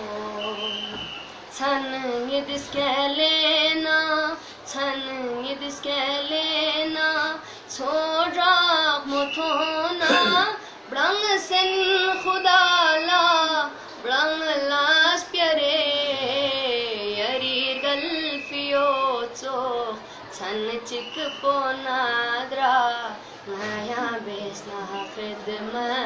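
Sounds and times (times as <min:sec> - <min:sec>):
boy singing solo: 0:00.0 - 0:26.0.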